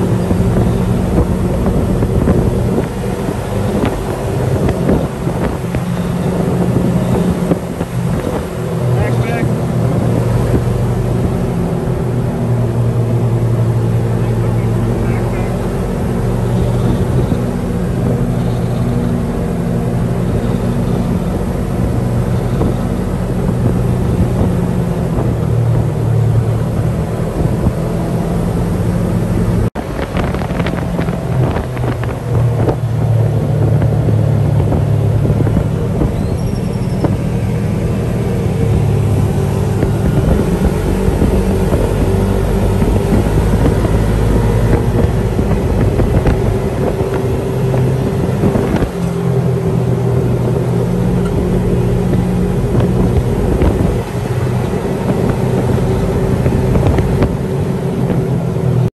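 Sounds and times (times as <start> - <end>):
buggy engine running: 0.0 - 58.9
wind on microphone: 0.0 - 58.9.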